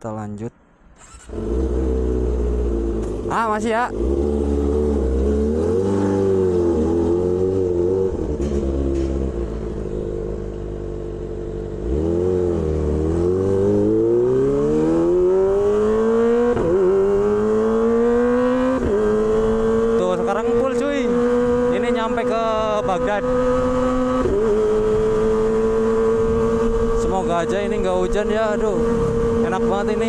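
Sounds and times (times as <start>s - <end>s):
motorcycle accelerating: 0.9s - 30.0s
motorcycle engine revving: 0.9s - 30.0s.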